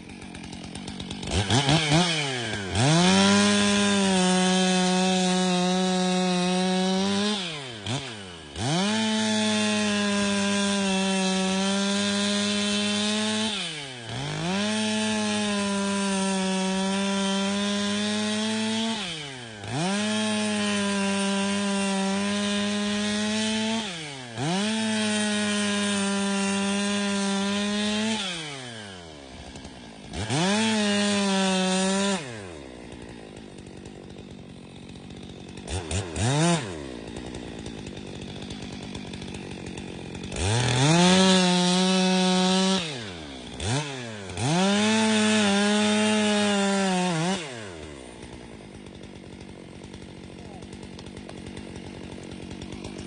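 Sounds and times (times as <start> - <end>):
chainsaw cutting: 0.0 - 53.0.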